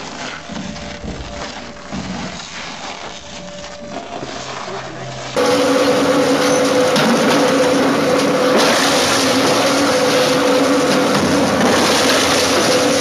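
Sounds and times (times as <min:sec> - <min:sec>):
crushing machine droning: 0:00.0 - 0:13.0.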